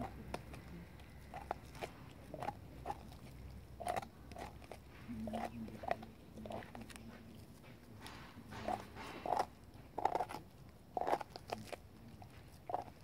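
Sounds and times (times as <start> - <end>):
dog gnawing a bone: 0.0 - 13.0.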